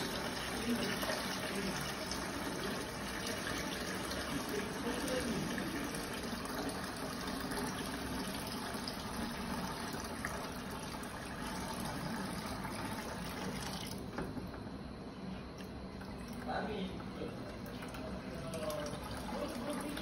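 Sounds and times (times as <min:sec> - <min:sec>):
water pouring into plastic bucket: 0:00.0 - 0:14.4, 0:15.6 - 0:20.0.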